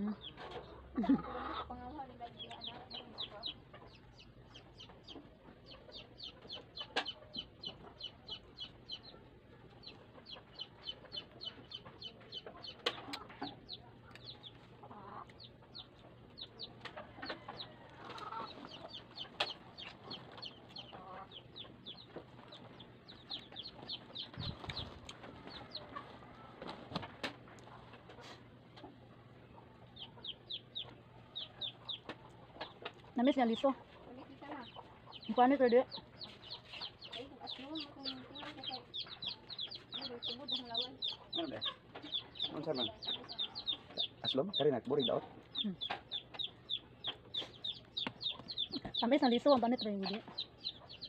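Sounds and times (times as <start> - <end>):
chickens clucking: 0.0 - 51.0.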